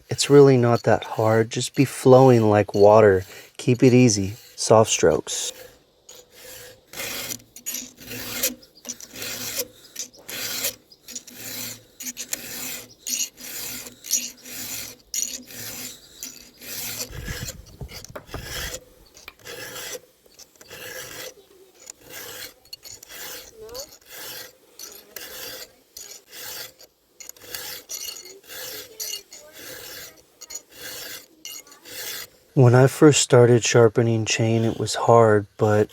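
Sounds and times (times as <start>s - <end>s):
file rasping on chainsaw chain: 0.0s - 35.9s.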